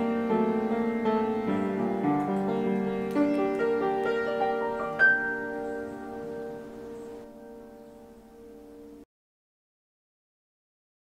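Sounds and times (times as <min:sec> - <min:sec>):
slow piano music: 0:00.0 - 0:09.1.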